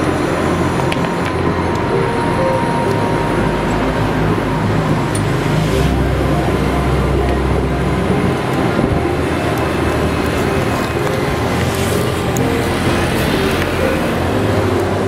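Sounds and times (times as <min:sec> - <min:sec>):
engine hum: 0:00.0 - 0:15.0
road rumble and hiss: 0:00.0 - 0:15.0.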